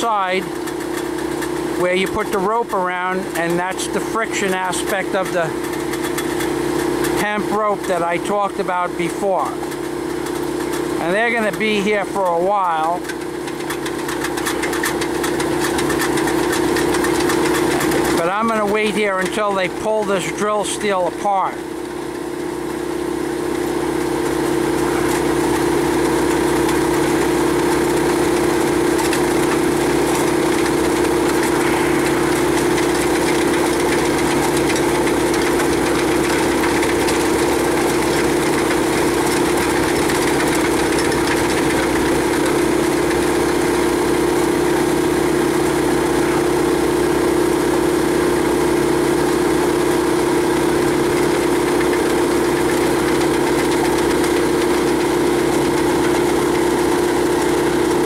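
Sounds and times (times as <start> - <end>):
rock drill rig droning: 0.0 - 58.0.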